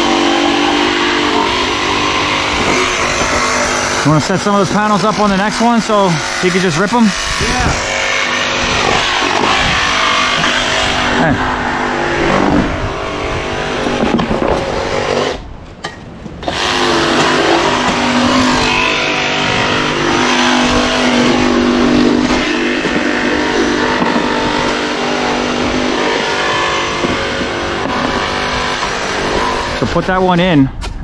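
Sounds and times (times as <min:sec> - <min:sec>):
cut-off saw cutting: 0:00.0 - 0:15.5, 0:16.4 - 0:30.5.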